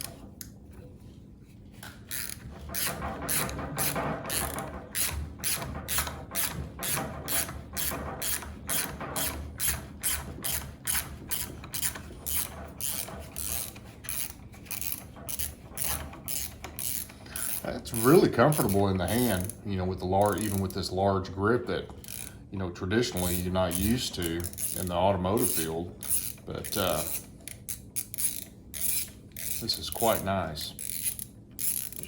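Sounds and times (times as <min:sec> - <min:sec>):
ratchet wrench clicking: 0:02.1 - 0:19.6, 0:22.0 - 0:22.3, 0:23.2 - 0:24.8, 0:25.4 - 0:32.0.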